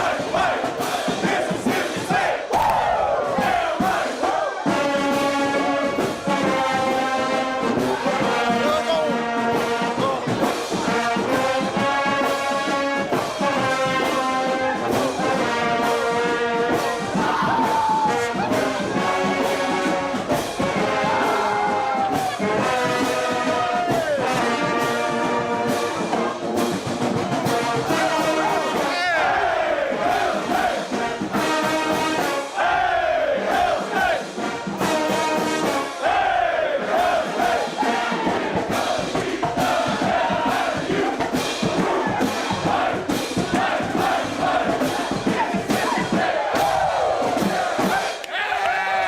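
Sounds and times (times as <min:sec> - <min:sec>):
brass band playing chords: 0:00.0 - 0:48.3.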